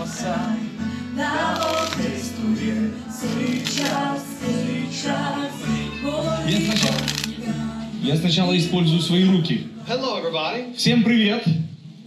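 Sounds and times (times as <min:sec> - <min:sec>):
background music with singing: 0:00.0 - 0:12.0.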